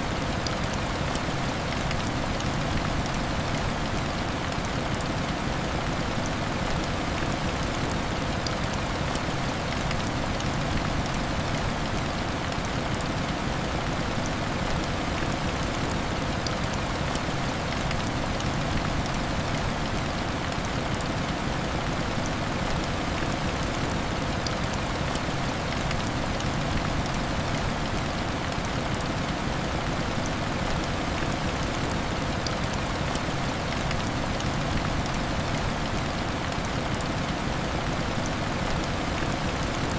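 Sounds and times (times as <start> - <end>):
heavy rain on window glass: 0.0 - 39.9.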